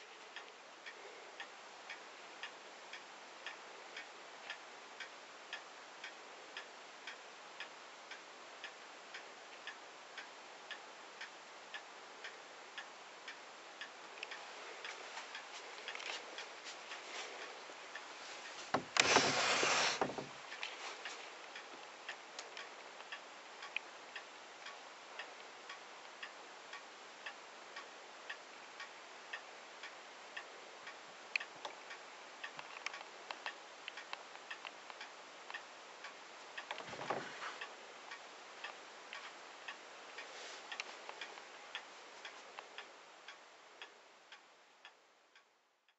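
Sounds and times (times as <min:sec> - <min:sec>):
faint regular ticking: 0:00.0 - 0:45.6.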